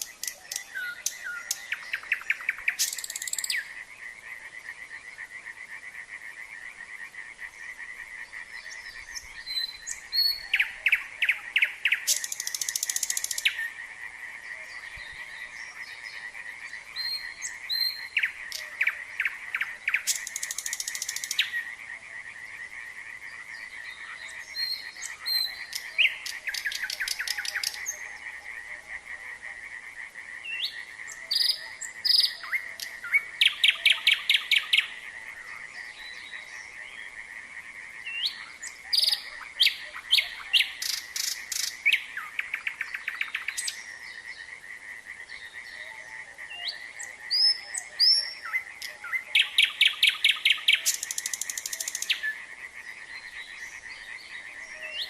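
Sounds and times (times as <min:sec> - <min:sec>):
frog chorus trilling: 0:00.0 - 0:55.0
nightingale singing: 0:00.0 - 0:55.0.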